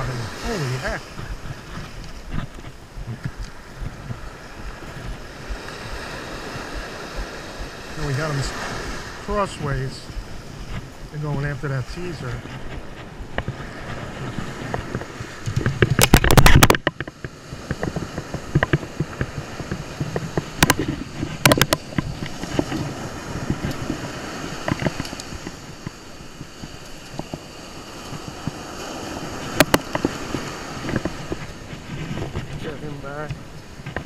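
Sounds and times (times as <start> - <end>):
ocean surf: 0.0 - 34.0
wind on microphone: 0.0 - 34.0.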